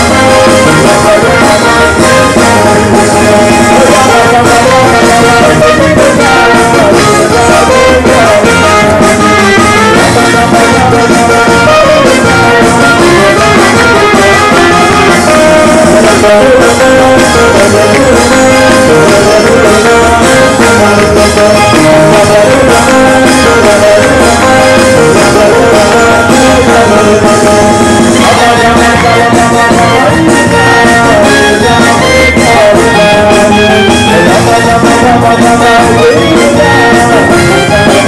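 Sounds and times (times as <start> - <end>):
loud dance music with steady beat: 0.0 - 38.0.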